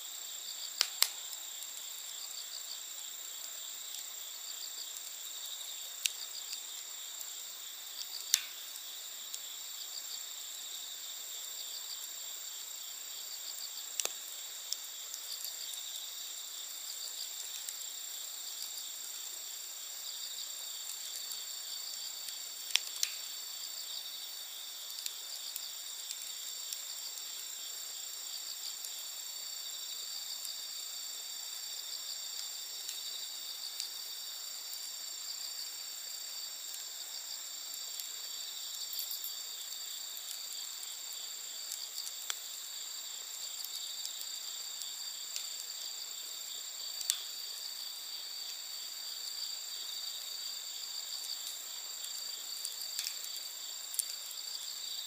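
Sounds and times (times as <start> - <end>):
campfire crackling: 0.0 - 55.0
crickets trilling: 0.0 - 55.0.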